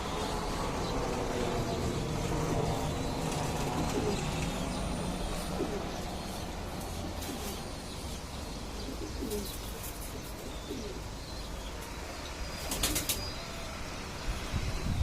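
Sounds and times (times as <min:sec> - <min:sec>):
pigeons cooing: 0:00.0 - 0:13.8.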